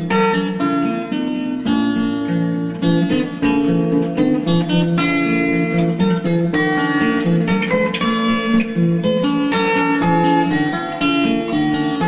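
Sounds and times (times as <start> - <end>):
acoustic guitar plucking: 0.0 - 12.0.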